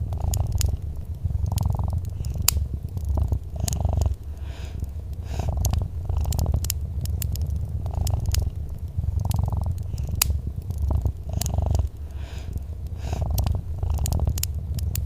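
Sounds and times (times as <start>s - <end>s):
cat purring: 0.0s - 15.0s
wood fire crackling: 0.0s - 15.0s.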